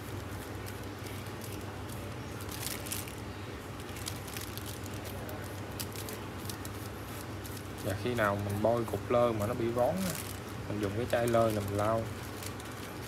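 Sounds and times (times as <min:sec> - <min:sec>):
faint squishing: 0:00.0 - 0:13.0
plastic glove crinkling: 0:00.0 - 0:13.0.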